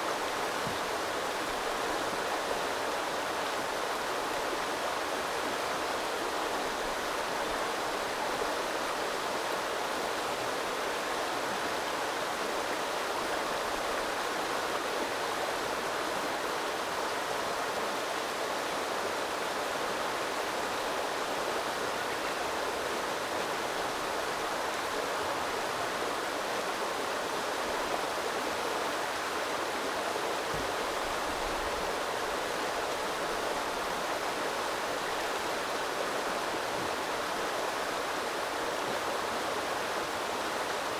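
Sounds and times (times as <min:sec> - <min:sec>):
river babbling: 0:00.0 - 0:40.9.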